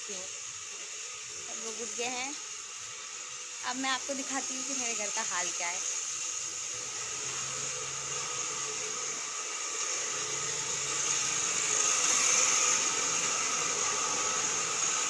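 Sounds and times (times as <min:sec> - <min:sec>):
electric fan whirring: 0:00.0 - 0:15.0.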